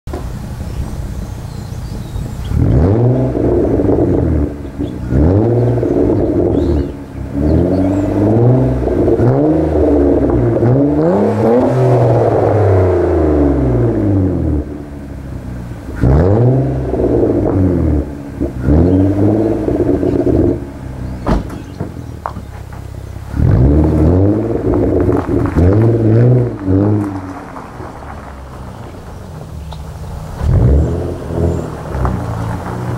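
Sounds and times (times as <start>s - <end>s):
car engine revving: 0.4s - 32.9s.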